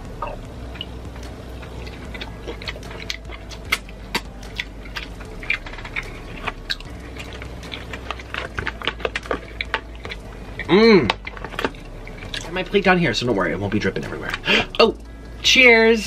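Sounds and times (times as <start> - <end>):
wet chewing: 0.2 - 15.2.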